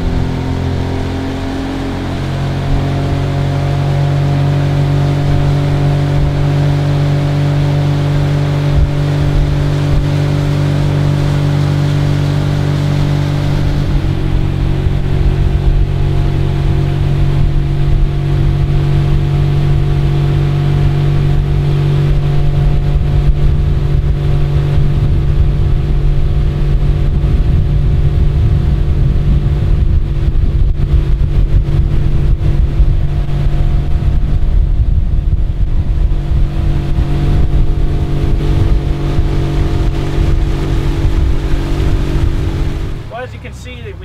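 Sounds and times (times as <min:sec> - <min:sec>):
outboard motor running: 0:00.0 - 0:44.0
wind and water rushing: 0:00.0 - 0:44.0.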